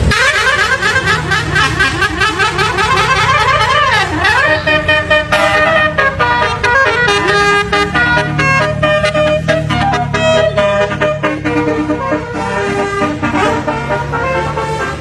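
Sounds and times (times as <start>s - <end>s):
musical bus horn: 0.0s - 15.0s.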